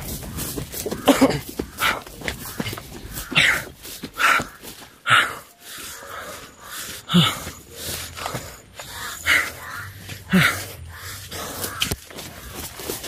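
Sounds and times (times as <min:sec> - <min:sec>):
man breathing heavily: 0:00.0 - 0:13.0.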